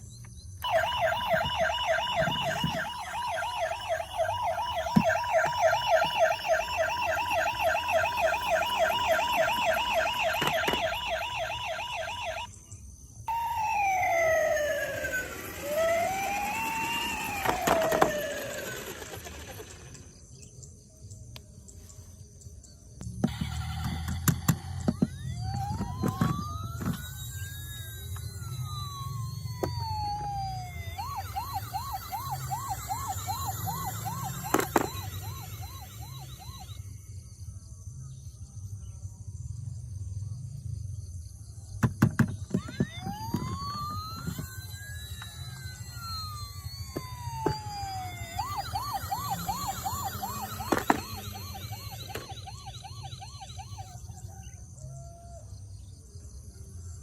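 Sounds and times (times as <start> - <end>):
toy electronic siren: 0.6 - 20.5, 23.0 - 39.0, 41.7 - 57.0.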